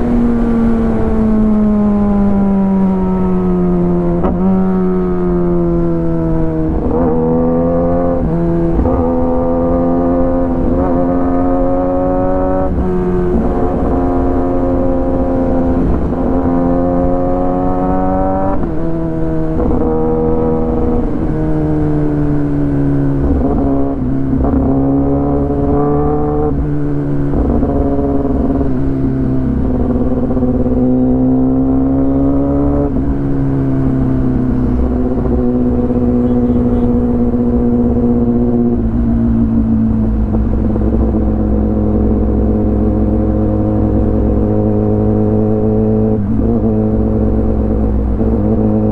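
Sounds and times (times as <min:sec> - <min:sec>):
low wind rumble: 0:00.0 - 0:48.9
motorcycle engine shifting gears: 0:00.0 - 0:48.9.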